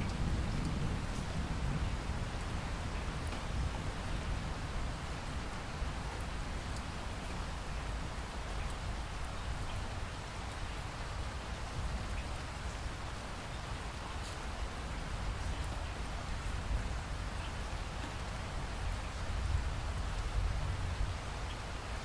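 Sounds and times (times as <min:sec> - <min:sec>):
faint raindrop ticks: 0:00.0 - 0:01.5, 0:02.3 - 0:04.1, 0:05.3 - 0:12.8, 0:13.8 - 0:21.7
steady rain hiss: 0:00.0 - 0:22.0.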